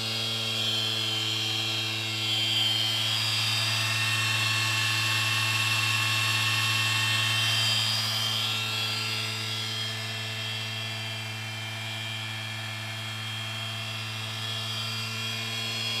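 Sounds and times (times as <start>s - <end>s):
stepper motor whine: 0.0s - 16.0s.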